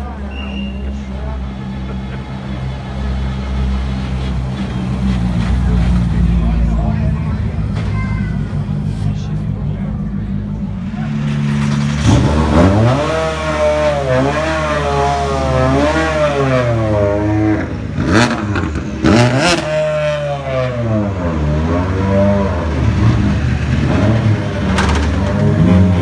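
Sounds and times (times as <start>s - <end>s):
rally car engine revving: 0.0s - 26.0s
sharp engine bangs: 0.8s - 26.0s.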